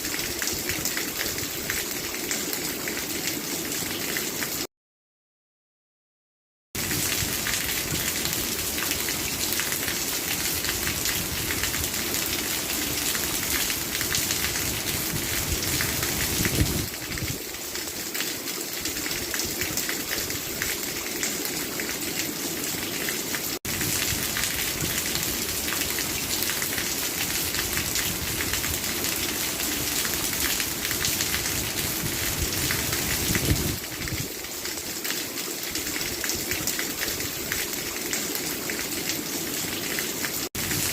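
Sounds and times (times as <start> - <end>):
heavy rainfall: 0.0 - 4.7, 6.8 - 40.9.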